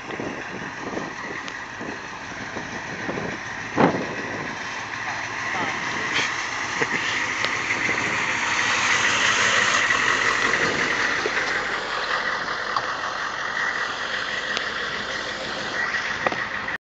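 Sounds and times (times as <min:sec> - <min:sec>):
diesel engine running: 0:00.0 - 0:16.8
steady high whine: 0:00.0 - 0:16.8.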